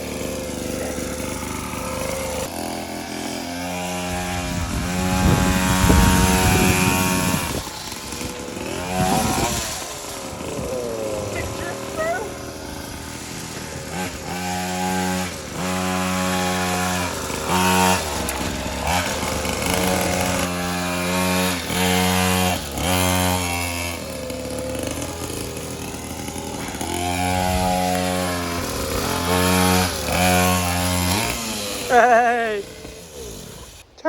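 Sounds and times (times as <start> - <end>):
small engine revving hard: 0.0 - 33.8.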